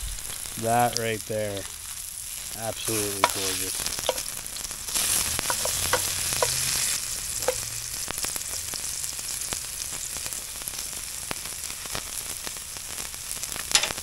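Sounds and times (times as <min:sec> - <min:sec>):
mushrooms and garlic sizzling: 0:00.0 - 0:14.0.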